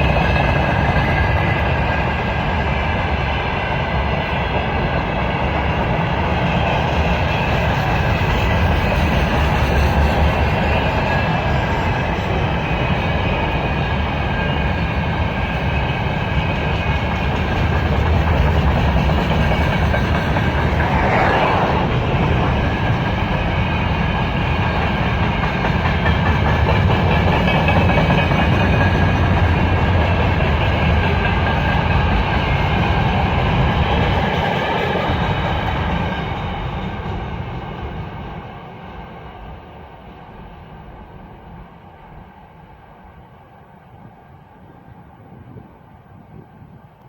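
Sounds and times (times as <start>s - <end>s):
freight train rumbling: 0.0s - 47.0s.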